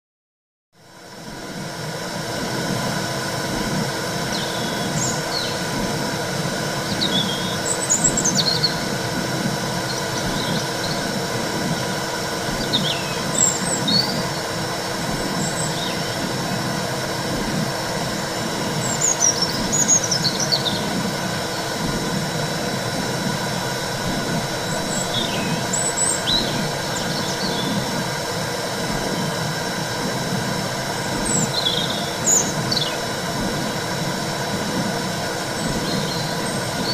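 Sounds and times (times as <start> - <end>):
faint hum: 0.8 - 36.9
low pulsing: 1.0 - 36.9.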